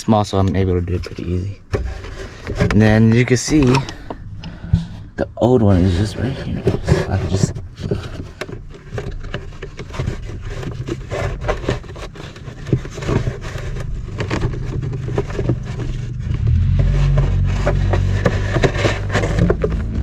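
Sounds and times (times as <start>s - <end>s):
plastic scraping and clicking: 0.0s - 20.0s
steady low hum: 0.0s - 20.0s.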